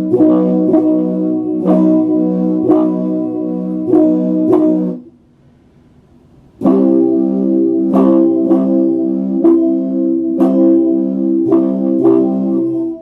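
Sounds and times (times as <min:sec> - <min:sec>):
electric guitar chords: 0:00.0 - 0:05.1, 0:06.6 - 0:13.0.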